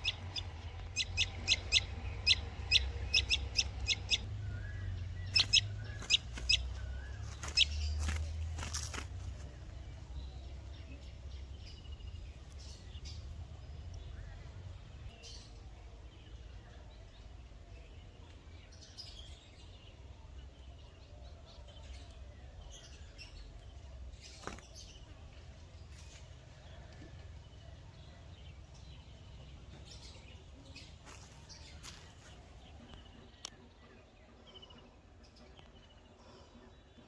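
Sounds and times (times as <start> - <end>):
faint bird chirps: 0.0 - 37.0.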